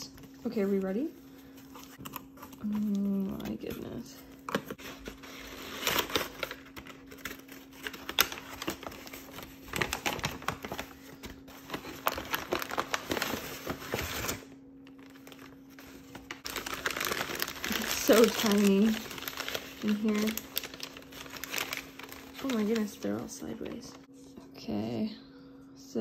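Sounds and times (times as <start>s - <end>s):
paper crinkling and rustling: 0.0s - 24.1s.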